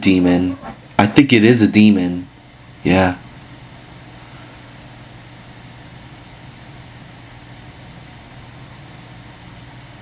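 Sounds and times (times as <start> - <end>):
steady low hum with hiss: 0.0 - 10.0.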